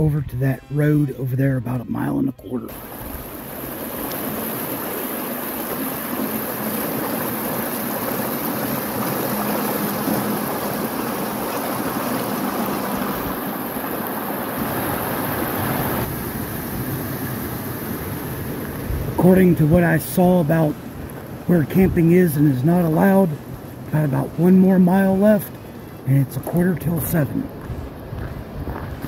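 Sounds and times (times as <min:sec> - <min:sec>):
water rushing through grate drains: 0:02.7 - 0:28.2.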